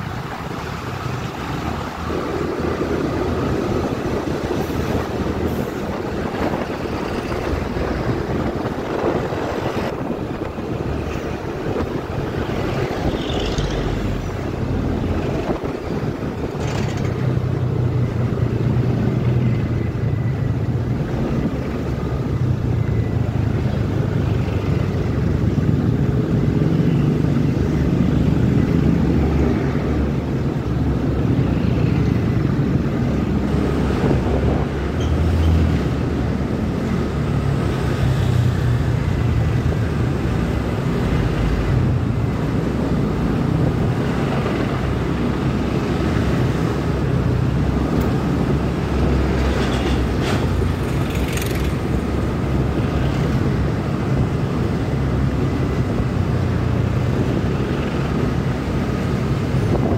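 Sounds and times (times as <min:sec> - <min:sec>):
trucks passing close: 0:00.0 - 0:59.9.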